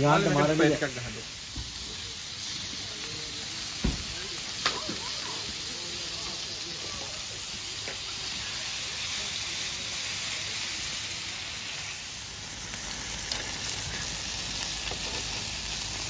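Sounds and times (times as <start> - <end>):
meat sizzling on hotplate: 0.0 - 16.0.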